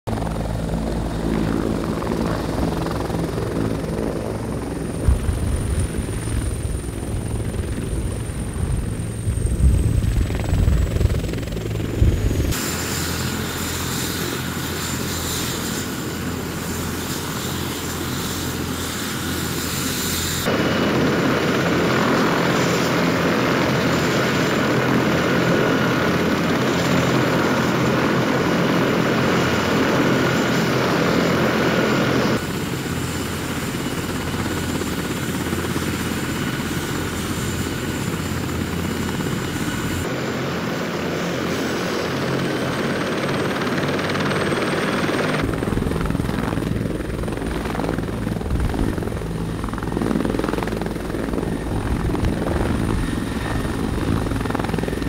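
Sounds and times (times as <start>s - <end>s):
helicopter rotor thumping: 0.1s - 40.0s, 41.0s - 55.0s
helicopter turbine whine: 0.1s - 55.0s.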